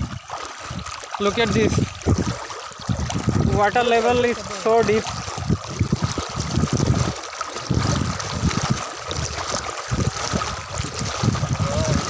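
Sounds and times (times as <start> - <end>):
wind gusts on microphone: 0.0 - 12.0.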